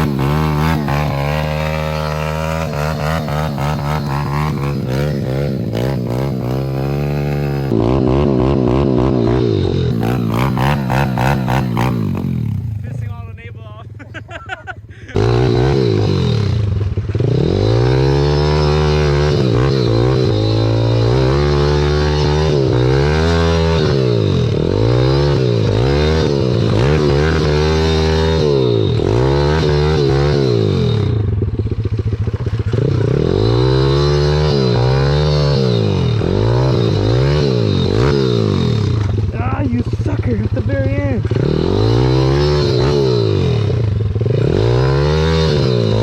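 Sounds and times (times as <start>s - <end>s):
small motorcycle engine revving: 0.0s - 46.0s.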